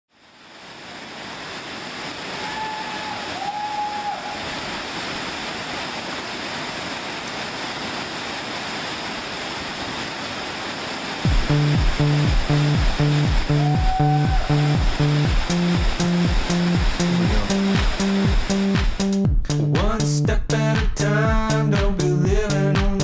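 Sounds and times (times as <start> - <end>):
waterfall pouring: 0.1 - 19.2.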